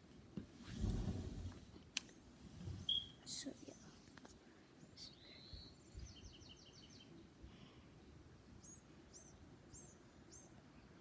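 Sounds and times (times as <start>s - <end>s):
faint birdsong: 0.8s - 11.0s.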